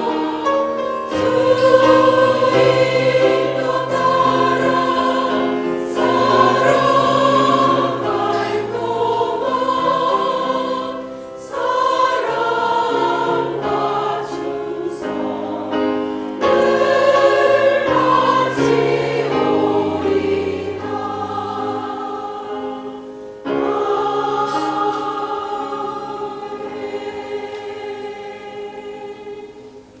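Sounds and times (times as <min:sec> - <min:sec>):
choir singing sustained chords: 0:00.0 - 0:30.0.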